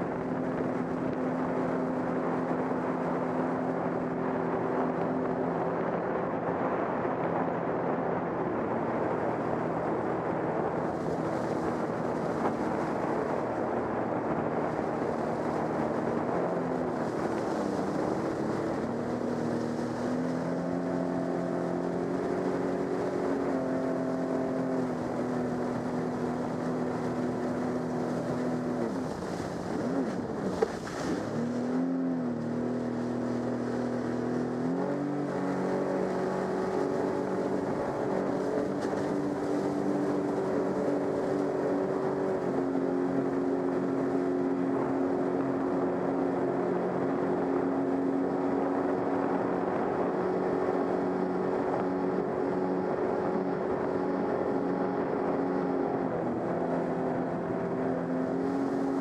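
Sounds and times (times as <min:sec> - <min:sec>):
jet ski engine: 0:00.0 - 0:59.0
water rushing: 0:00.0 - 0:59.0.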